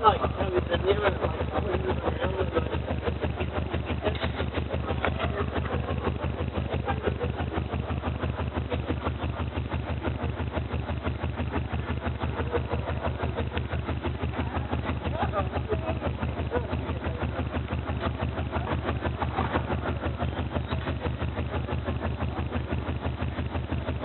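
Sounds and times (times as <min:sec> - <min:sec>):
pulsing low bass tone: 0:00.0 - 0:24.0.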